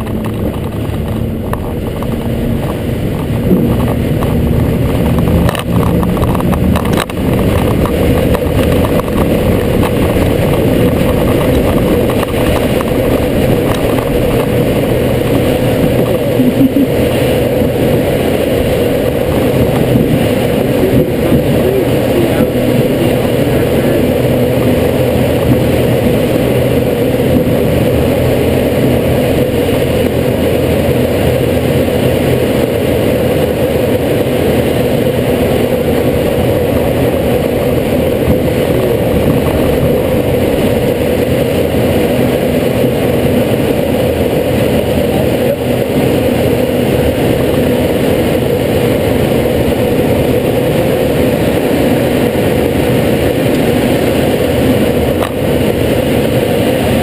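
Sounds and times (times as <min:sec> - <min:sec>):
air rushing: 0:00.0 - 0:57.0
engine drone: 0:00.0 - 0:57.0.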